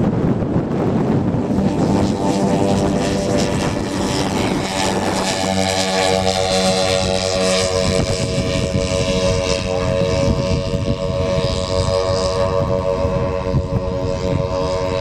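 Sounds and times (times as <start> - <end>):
model plane engines droning: 0.0 - 15.0
wind buffeting microphone: 0.0 - 15.0.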